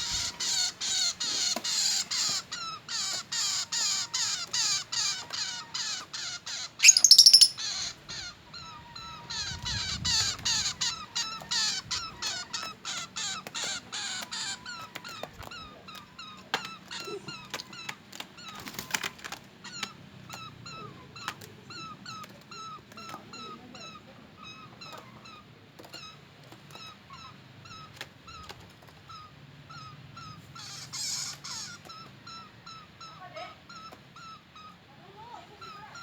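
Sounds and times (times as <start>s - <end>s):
pet bird calling: 0.0s - 36.0s.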